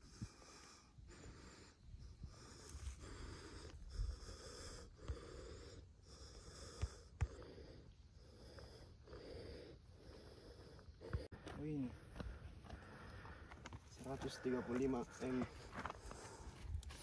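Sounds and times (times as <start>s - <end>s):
heavy quick breathing: 0.0s - 17.0s.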